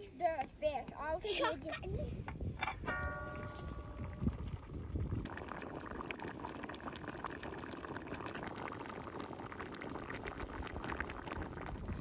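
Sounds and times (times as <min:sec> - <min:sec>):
stew bubbling with small pops: 0:01.6 - 0:12.0.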